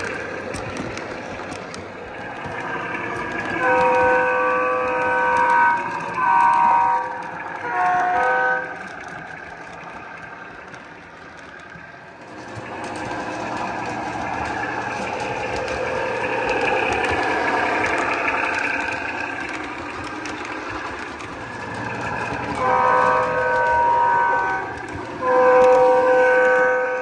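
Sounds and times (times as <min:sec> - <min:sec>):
model train running rumble: 0:00.0 - 0:27.0.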